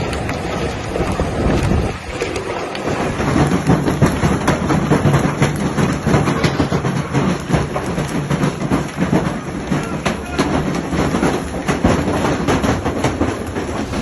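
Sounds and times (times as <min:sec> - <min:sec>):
hailstones rattling: 0:00.0 - 0:14.0
loud single hail impacts: 0:00.0 - 0:14.0.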